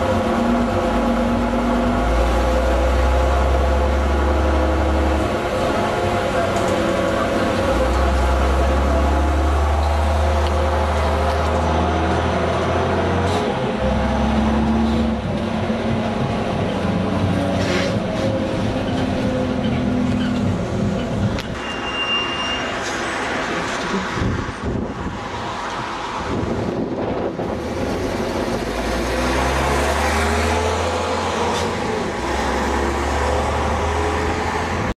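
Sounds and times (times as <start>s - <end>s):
bus diesel engine droning: 0.0s - 25.1s, 25.7s - 35.0s.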